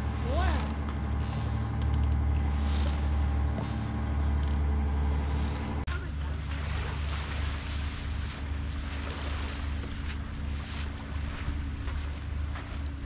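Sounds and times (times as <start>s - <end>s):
boat engine idling: 0.0s - 13.0s
small waves lapping: 0.0s - 13.0s.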